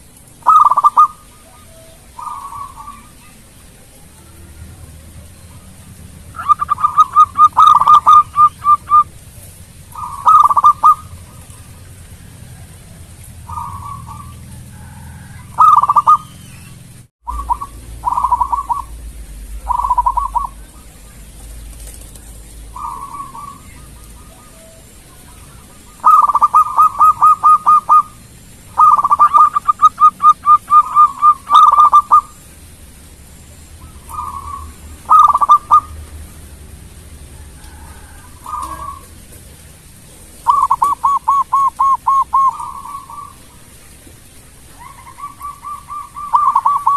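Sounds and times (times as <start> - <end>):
dove cooing: 0.4 - 16.6, 17.3 - 32.4, 33.8 - 36.0, 37.3 - 43.8, 44.7 - 46.9.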